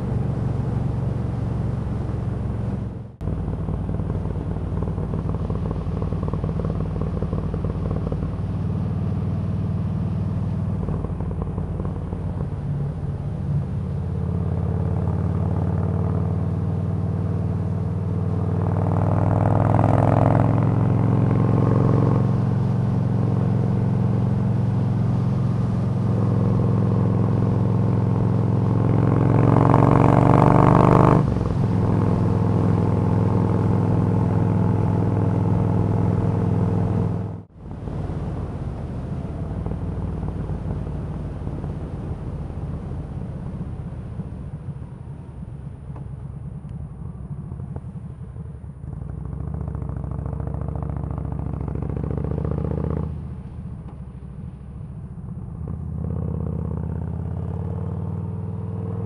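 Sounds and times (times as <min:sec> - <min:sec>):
motorcycle engine running: 0:00.0 - 0:53.1.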